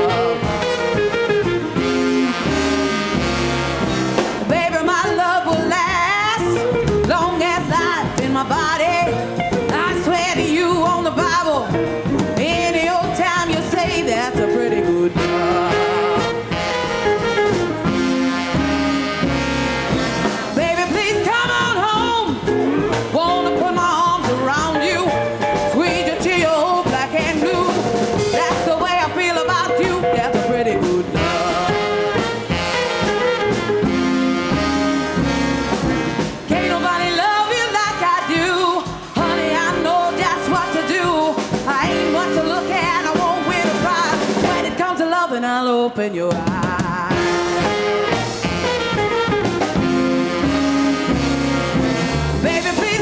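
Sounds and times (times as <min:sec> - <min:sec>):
lead melody line: 0:00.0 - 0:45.0, 0:47.1 - 0:53.0
rhythm and blues band playing: 0:00.0 - 0:53.0.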